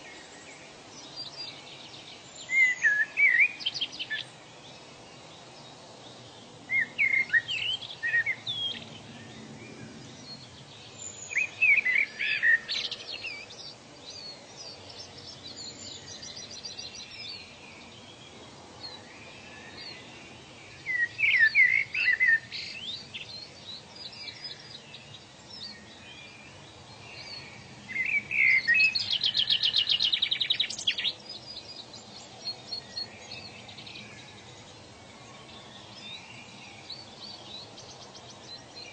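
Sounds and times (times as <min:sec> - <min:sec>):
birds chirping: 0:00.0 - 0:38.9
faint steady hiss: 0:00.0 - 0:38.9.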